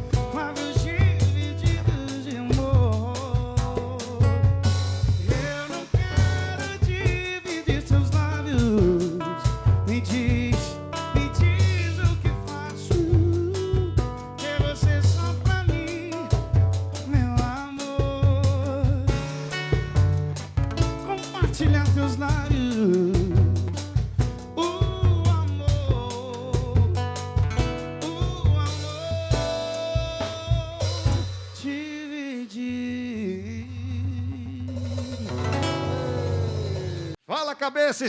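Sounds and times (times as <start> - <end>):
song with drum beat: 0.0 - 33.3, 34.2 - 37.2.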